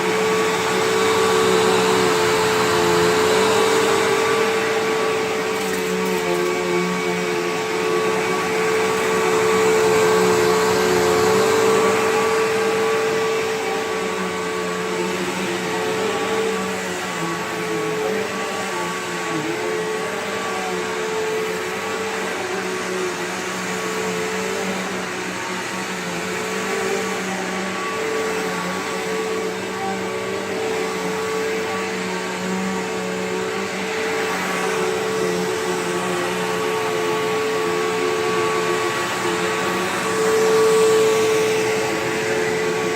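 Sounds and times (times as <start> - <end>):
upright vacuum cleaner running: 0.0 - 42.9.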